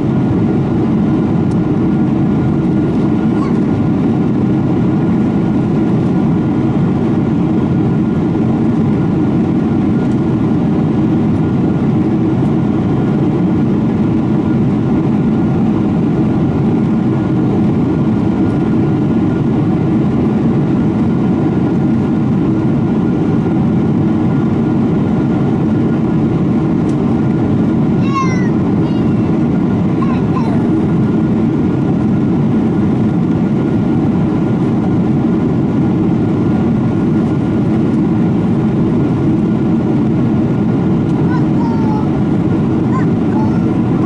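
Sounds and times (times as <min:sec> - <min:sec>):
airplane cabin rumble: 0:00.0 - 0:44.0.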